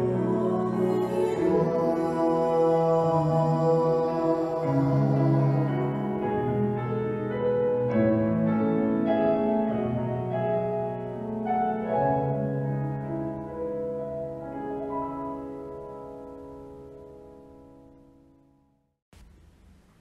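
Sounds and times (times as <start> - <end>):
solo piano slow chords: 0.0 - 20.0.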